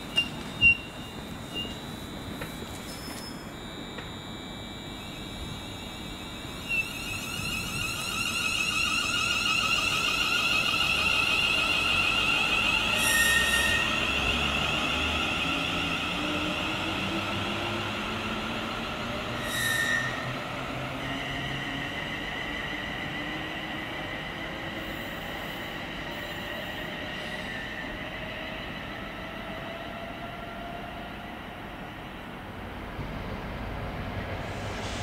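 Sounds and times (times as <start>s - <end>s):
electric train whine: 0.0s - 35.0s.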